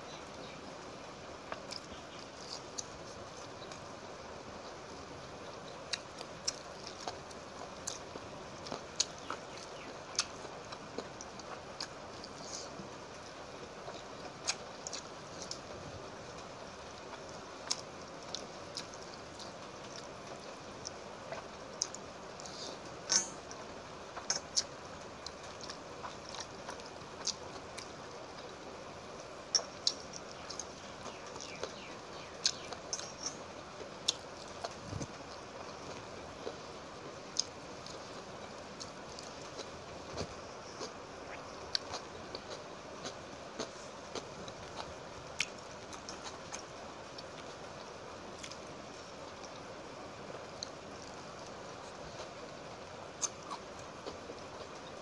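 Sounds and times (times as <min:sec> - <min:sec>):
steady background hiss: 0:00.0 - 0:55.0
wet chewing and hand in rice: 0:01.5 - 0:55.0.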